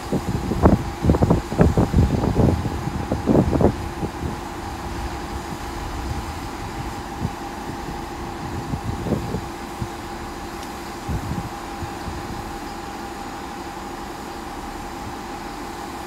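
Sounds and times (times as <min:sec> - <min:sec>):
diesel trains idling: 0:00.0 - 0:16.0.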